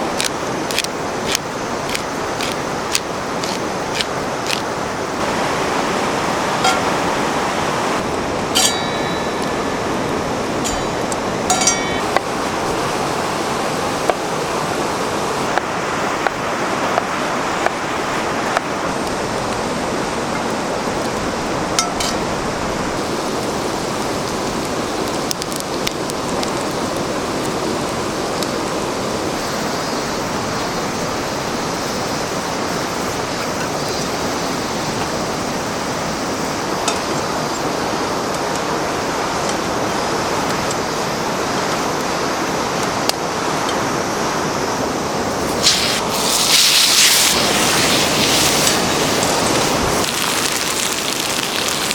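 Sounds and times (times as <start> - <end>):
river water rushing: 0.0 - 33.3, 34.2 - 51.9.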